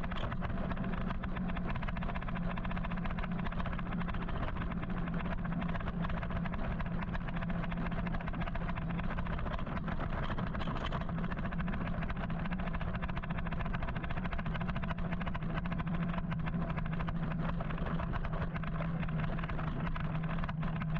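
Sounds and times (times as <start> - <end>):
constant low hum: 0.0 - 20.9.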